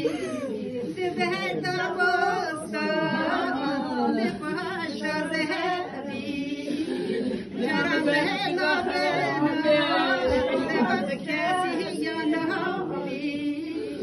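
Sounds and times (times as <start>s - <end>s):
women singing a lament: 0.0s - 14.0s.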